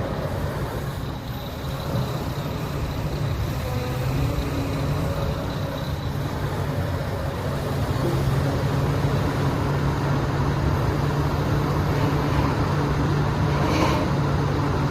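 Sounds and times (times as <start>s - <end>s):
diesel excavator engine running: 0.0s - 14.9s.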